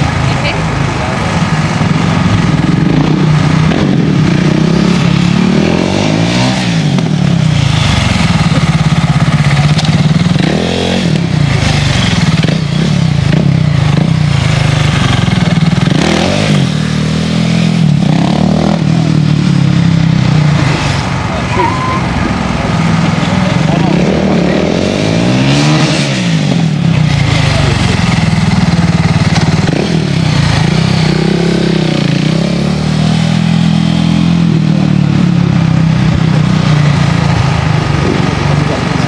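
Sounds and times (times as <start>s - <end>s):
motorcycle engine revving hard: 0.0s - 39.0s.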